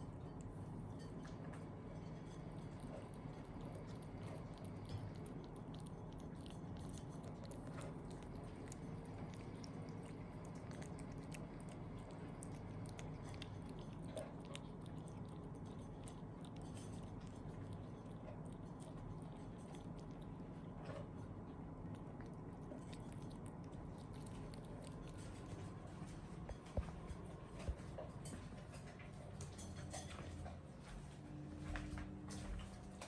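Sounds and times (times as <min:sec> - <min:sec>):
low hum: 0:00.0 - 0:33.0
pet chewing and crunching food: 0:00.0 - 0:33.0.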